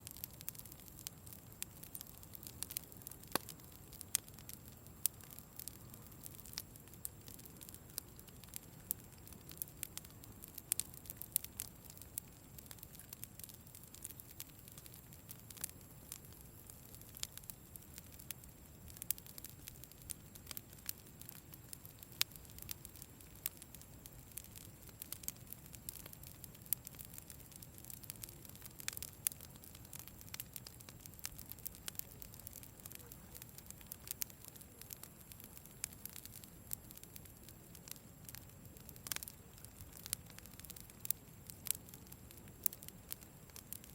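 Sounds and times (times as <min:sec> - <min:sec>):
campfire crackling and popping: 0:00.0 - 0:43.9
low rush of flame: 0:00.0 - 0:43.9.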